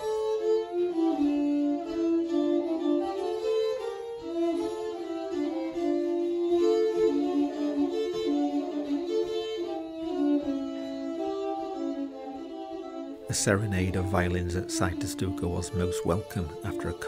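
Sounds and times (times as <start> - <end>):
violin bowed notes: 0.0 - 17.0.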